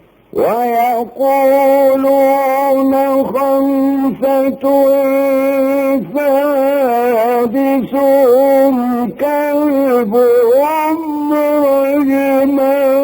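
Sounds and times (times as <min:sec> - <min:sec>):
man reciting melodically: 0:00.3 - 0:13.0.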